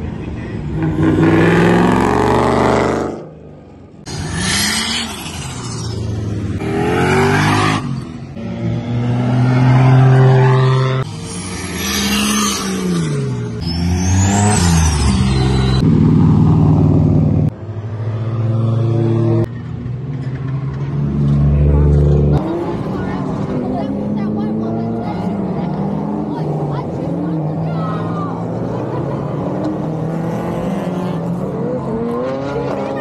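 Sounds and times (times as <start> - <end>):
car engines revving hard: 0.0 - 33.0.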